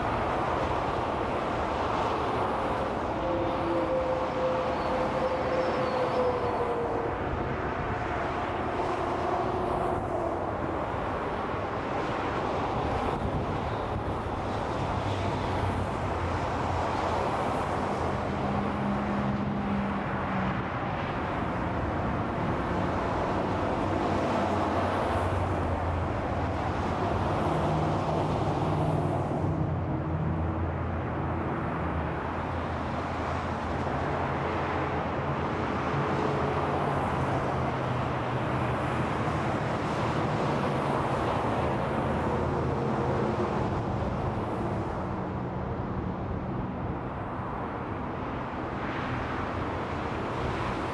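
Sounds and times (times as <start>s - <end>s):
freeway traffic: 0.0s - 50.9s.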